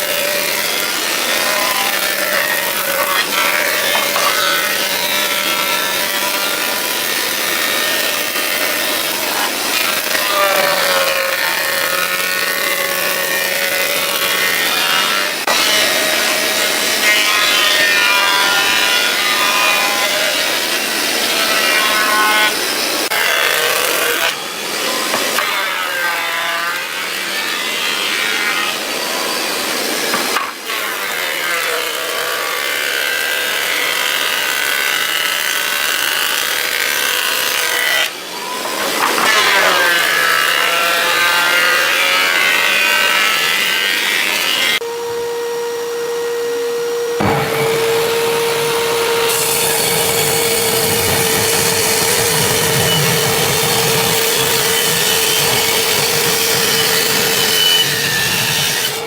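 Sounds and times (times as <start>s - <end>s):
electric tool cutting wood: 0.0s - 59.0s.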